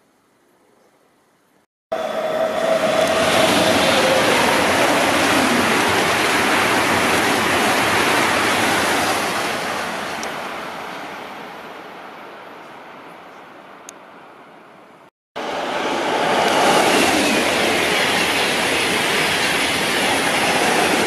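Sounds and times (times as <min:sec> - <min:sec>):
high-speed train passing: 0:01.9 - 0:13.2, 0:15.4 - 0:21.0.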